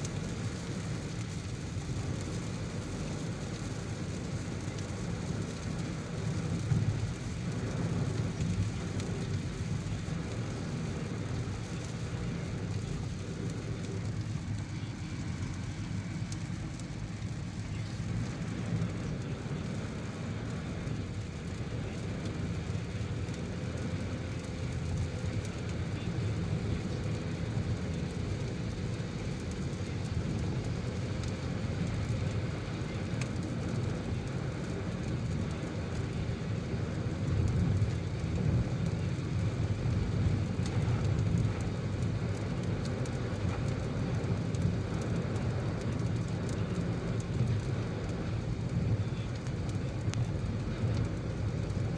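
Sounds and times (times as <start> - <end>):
car driving on a wet road: 0.0 - 51.9.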